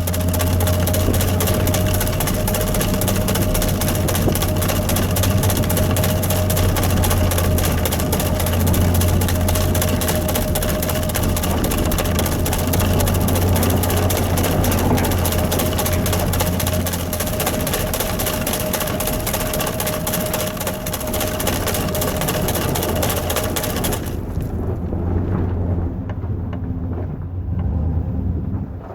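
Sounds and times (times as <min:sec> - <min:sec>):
engine droning with whine: 0:00.0 - 0:28.9.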